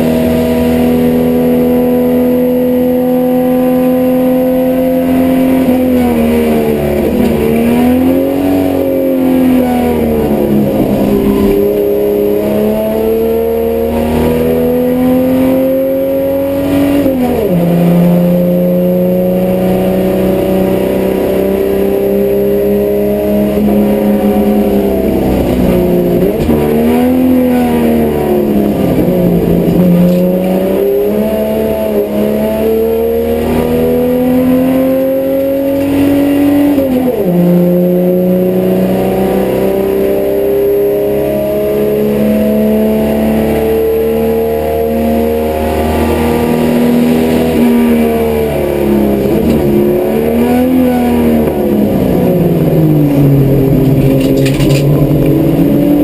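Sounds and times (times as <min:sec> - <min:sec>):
race car engine pulling hard: 0:00.0 - 0:56.0.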